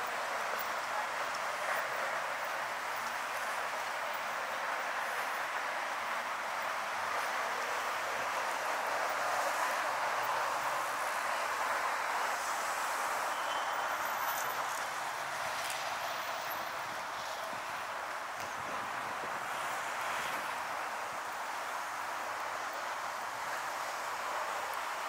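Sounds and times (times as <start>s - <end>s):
road traffic hiss: 0.0s - 25.0s.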